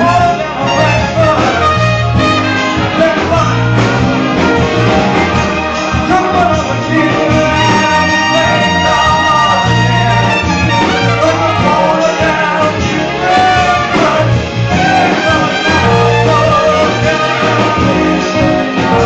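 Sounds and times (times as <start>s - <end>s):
live band with brass melody: 0.0s - 19.0s.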